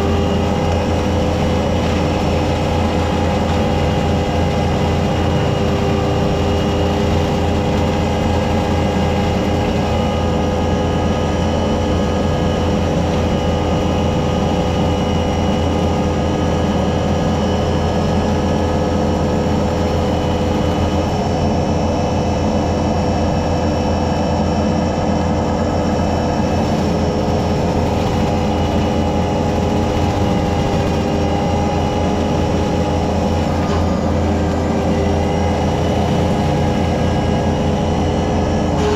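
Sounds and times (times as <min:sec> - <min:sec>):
brush cutter whine: 0:00.0 - 0:38.9
diesel engine rumble: 0:00.0 - 0:38.9.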